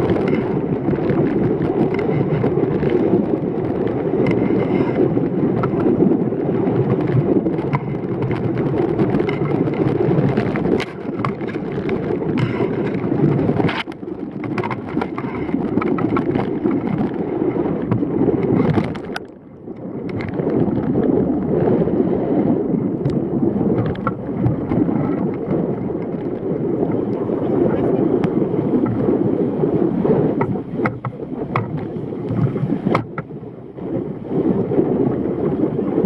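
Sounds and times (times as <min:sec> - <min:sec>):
water rushing past hulls: 0:00.0 - 0:36.0
wind buffeting microphone: 0:00.0 - 0:36.0.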